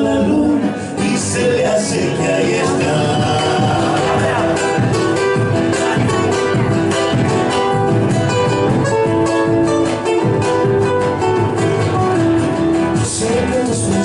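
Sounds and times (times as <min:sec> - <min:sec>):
acoustic guitar strumming: 0:00.0 - 0:14.0
plucked guitar melody: 0:00.0 - 0:14.0.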